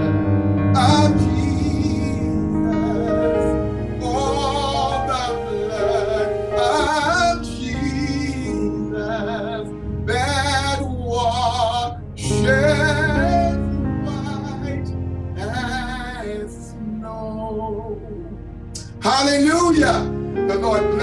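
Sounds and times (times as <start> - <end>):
held accompaniment chords: 0.0 - 21.0
man singing gospel song: 0.7 - 17.7, 18.8 - 21.0.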